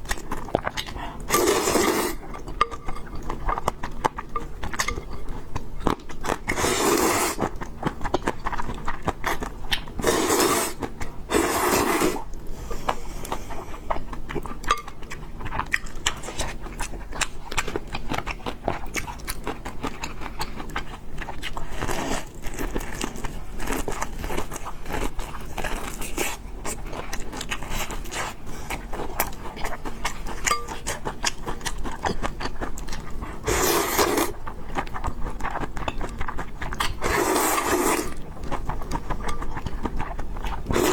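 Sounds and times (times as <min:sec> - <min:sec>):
person chewing noodles: 0:00.0 - 0:40.9.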